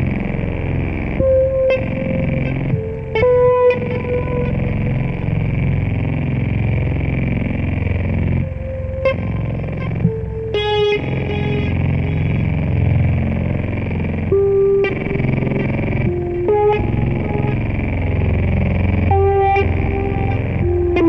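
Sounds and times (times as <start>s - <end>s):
low drone: 0.0s - 21.0s.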